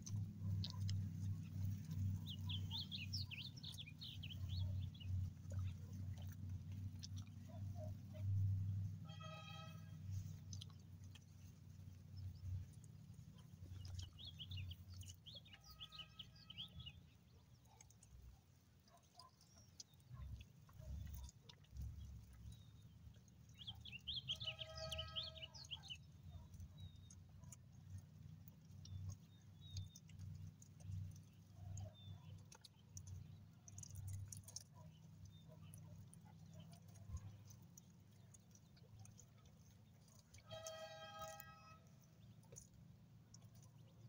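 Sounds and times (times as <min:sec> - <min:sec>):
dog chewing fruit: 0:00.0 - 0:44.0.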